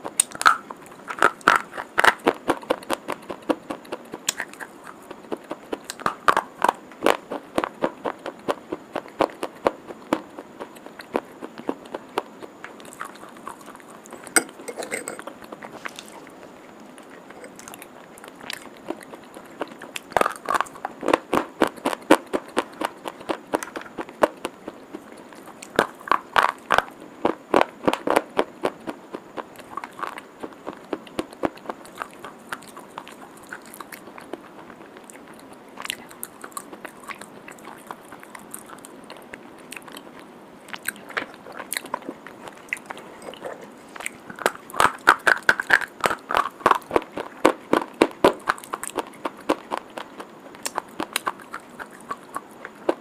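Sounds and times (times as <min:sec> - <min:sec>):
chalk crunching while chewed: 0:00.0 - 0:53.0.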